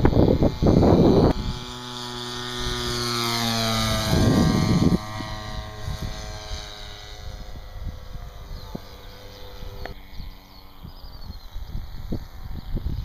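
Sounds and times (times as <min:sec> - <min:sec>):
model aeroplane motor droning: 0:00.0 - 0:13.0.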